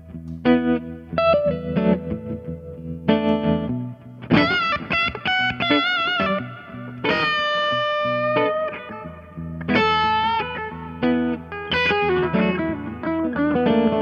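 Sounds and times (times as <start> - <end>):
overdriven electric guitar lead: 0.0 - 14.0.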